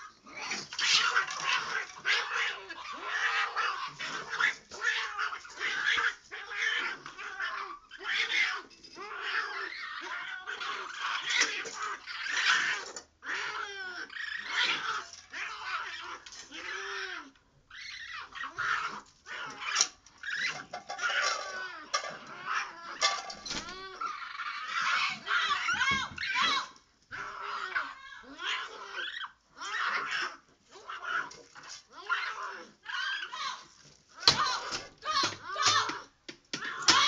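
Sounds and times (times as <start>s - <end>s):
cat and raccoon fighting: 0.0s - 37.0s.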